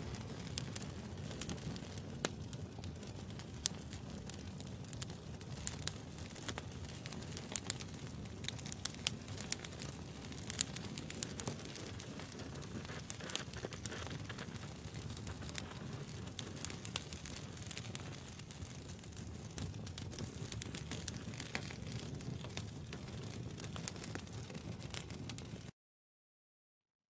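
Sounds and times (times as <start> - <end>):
campfire crackling and popping: 0.0 - 25.7
low rush of flames: 0.0 - 25.7.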